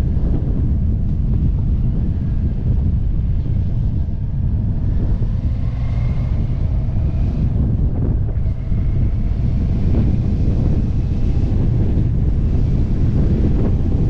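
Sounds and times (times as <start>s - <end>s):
motorcycle engine: 0.0s - 14.0s
wind buffeting microphone: 0.0s - 14.0s.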